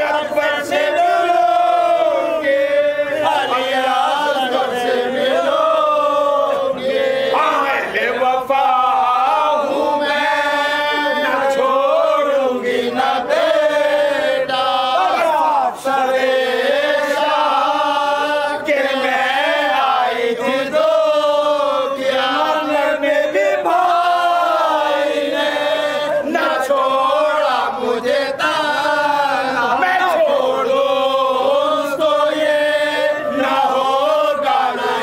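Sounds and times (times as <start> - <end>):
men chanting an elegy: 0.0 - 35.0.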